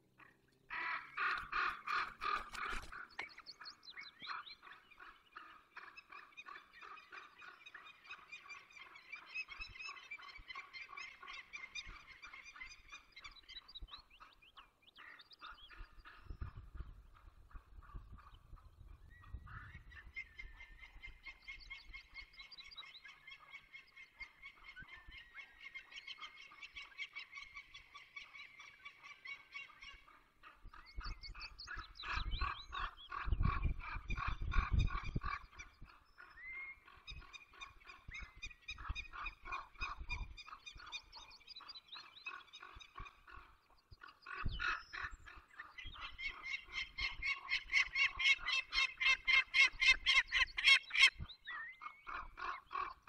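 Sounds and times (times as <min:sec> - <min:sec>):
falcons calling: 0:00.0 - 0:53.0.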